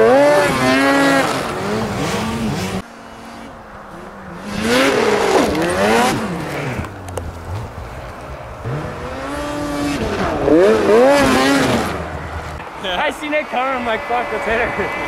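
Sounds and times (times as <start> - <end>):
snowmobile engines revving: 0.0 - 15.0.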